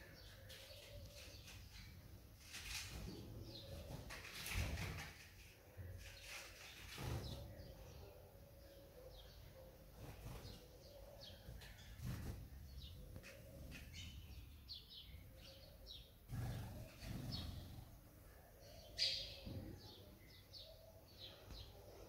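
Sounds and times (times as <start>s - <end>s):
sparrow chirping: 0.0s - 4.6s, 6.0s - 22.0s.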